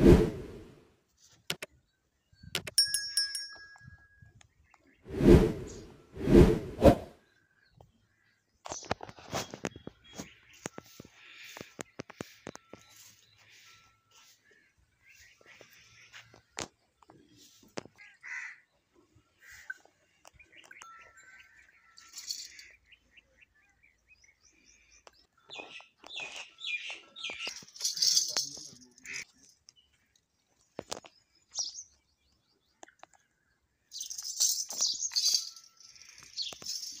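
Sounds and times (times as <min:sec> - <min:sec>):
birds chirping and trilling: 0:04.4 - 0:37.0.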